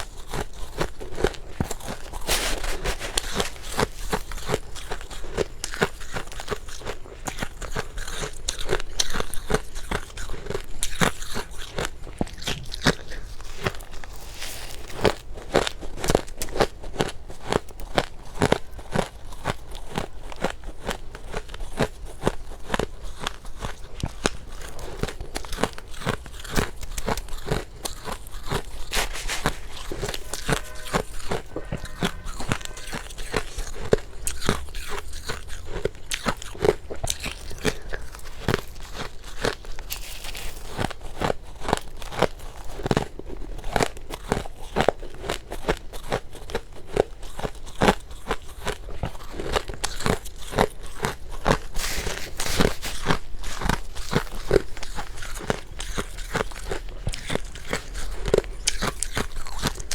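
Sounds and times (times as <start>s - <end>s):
crunching frost being chewed: 0.0s - 59.9s.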